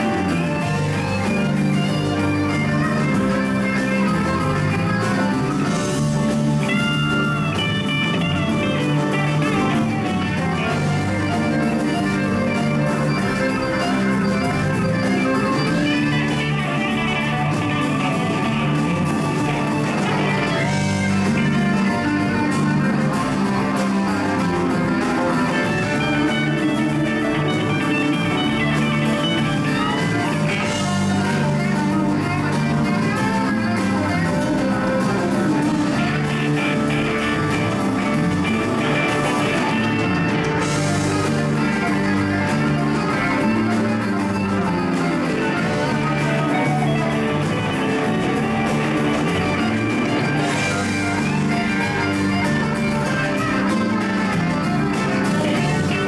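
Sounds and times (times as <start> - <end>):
blues-rock band playing: 0.0 - 56.0
electric guitars: 0.0 - 56.0.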